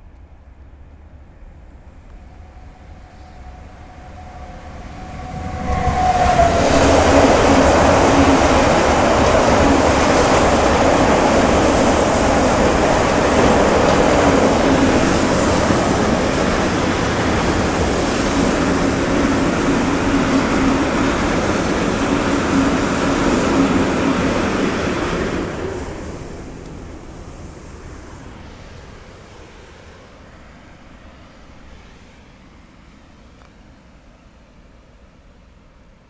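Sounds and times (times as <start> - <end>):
freight train wheels rumbling on rail: 0.0 - 29.9.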